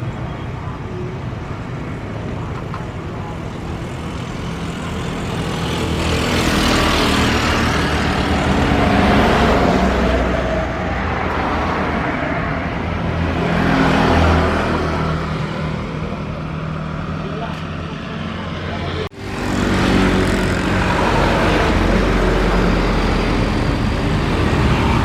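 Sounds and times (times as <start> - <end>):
passing vehicles: 0.0 - 25.0.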